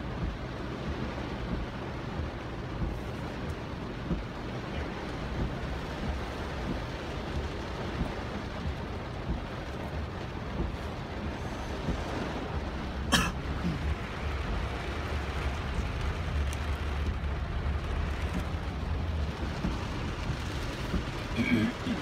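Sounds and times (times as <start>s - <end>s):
heavy rain on car roof: 0.0s - 22.0s
low rumble: 0.0s - 22.0s.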